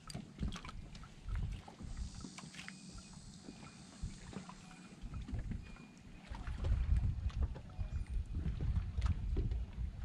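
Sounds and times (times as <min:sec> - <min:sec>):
low steady rumble: 0:00.0 - 0:10.0
small waves lapping against hull: 0:00.0 - 0:10.0.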